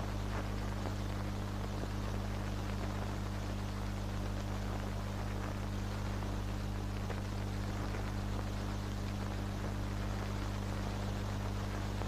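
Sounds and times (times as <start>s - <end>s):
faint crackles: 0.0s - 12.0s
film soundtrack hiss and hum: 0.0s - 12.0s.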